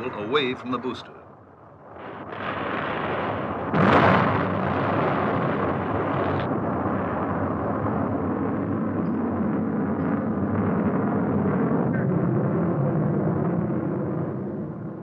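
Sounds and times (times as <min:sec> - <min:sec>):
long steady rumble: 0:00.0 - 0:15.0
loud explosion blast: 0:01.8 - 0:15.0.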